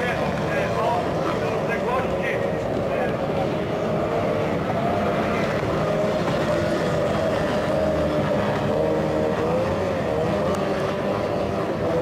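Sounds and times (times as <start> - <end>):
racing boat outboard engines whining: 0.0 - 12.0.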